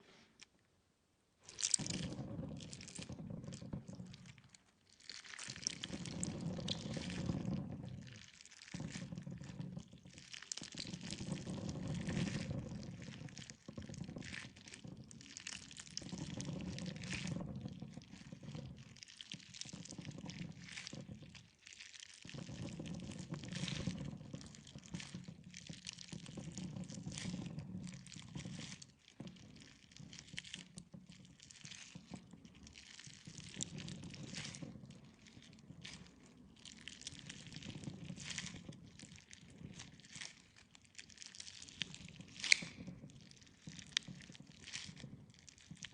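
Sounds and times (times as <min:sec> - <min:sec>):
jelly wet squishing: 0:01.4 - 0:45.9
small clicks and pops: 0:01.4 - 0:45.9.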